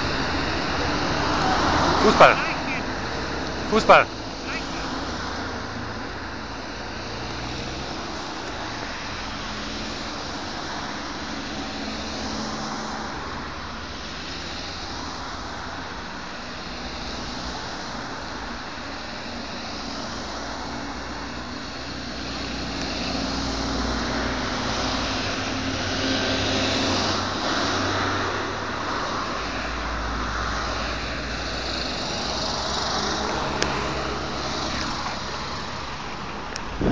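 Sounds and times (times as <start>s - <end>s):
vehicles driving past: 0.0s - 16.9s, 22.1s - 36.9s.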